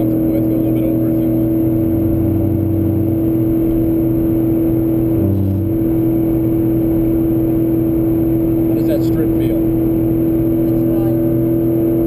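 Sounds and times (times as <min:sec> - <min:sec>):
car engine droning: 0:00.0 - 0:12.0
road and wind noise: 0:00.0 - 0:12.0.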